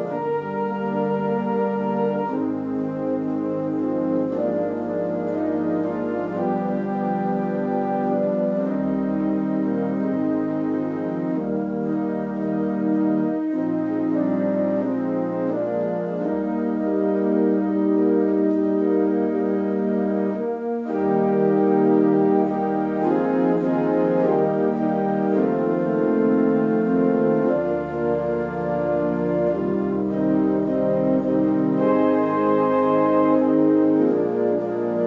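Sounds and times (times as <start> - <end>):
organ chords: 0.0 - 35.0.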